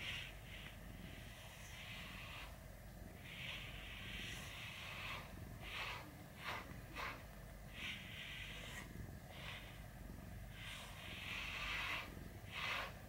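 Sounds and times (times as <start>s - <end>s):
brush strokes through fur: 0.0s - 2.6s, 3.2s - 9.8s, 10.5s - 13.0s.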